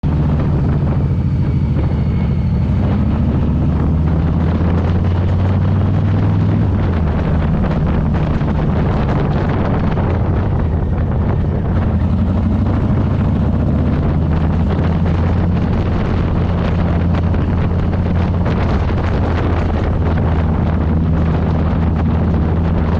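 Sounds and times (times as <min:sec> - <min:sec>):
motorcycle engine running: 0:00.0 - 0:22.9
wind buffeting microphone: 0:00.0 - 0:22.9.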